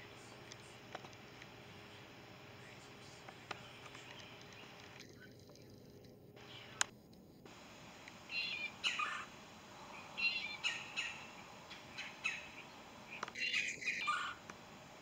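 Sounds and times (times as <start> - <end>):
songbird chirping: 0.0 - 6.9, 7.5 - 15.0.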